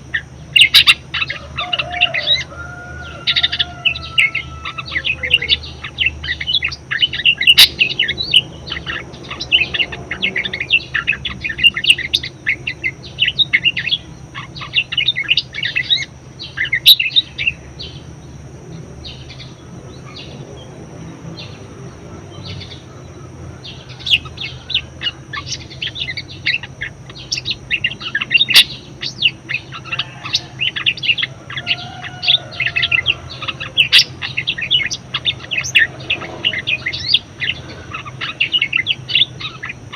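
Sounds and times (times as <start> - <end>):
budgerigar chattering: 0.0 - 2.5, 3.2 - 18.1, 21.4 - 39.9.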